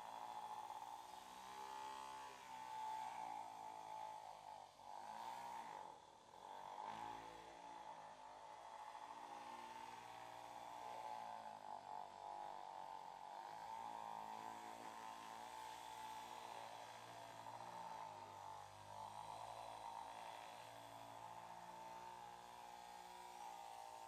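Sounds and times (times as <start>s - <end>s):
small motor buzzing: 0.0s - 24.0s.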